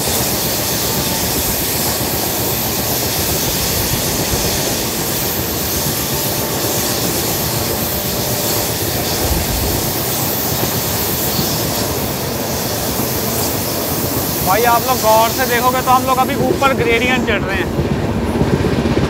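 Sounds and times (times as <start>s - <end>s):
train wheels on track: 0.0s - 19.0s.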